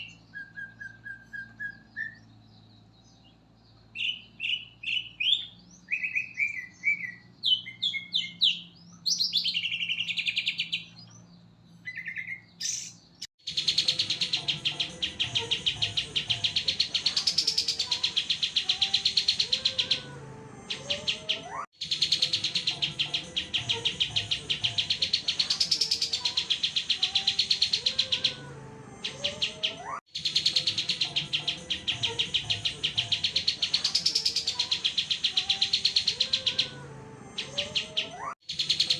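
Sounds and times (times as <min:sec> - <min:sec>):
songbird chirps and whistles: 0:00.0 - 0:20.1, 0:20.7 - 0:36.8
fast trilling birdsong: 0:00.0 - 0:38.9.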